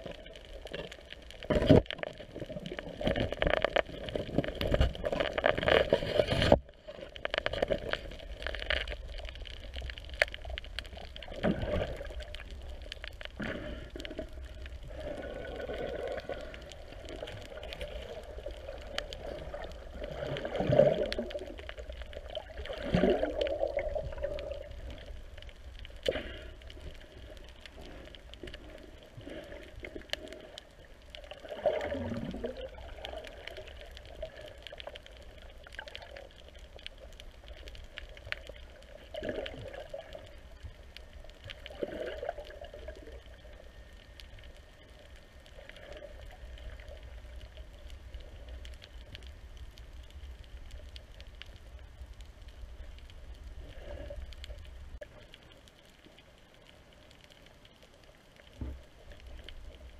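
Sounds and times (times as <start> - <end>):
muffled underwater water noise: 0.0 - 59.9.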